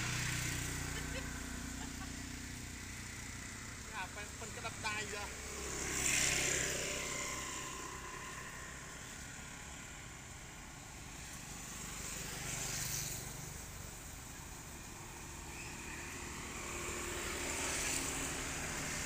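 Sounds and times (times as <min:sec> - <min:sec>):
passing vehicle engine hum: 0:00.0 - 0:19.0.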